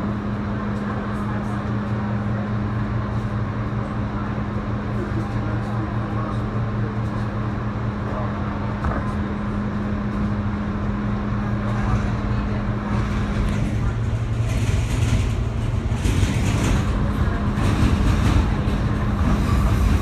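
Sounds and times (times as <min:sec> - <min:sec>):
constant low hum: 0:00.0 - 0:20.0
train wheels on rails: 0:00.0 - 0:20.0.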